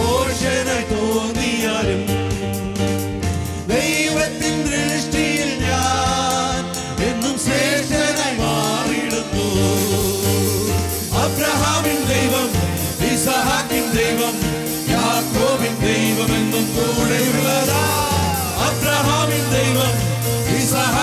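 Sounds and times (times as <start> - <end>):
bass line: 0.0 - 21.0
keyboard: 0.0 - 21.0
men singing into microphones: 0.0 - 21.0
electronic drum beat: 1.8 - 21.0.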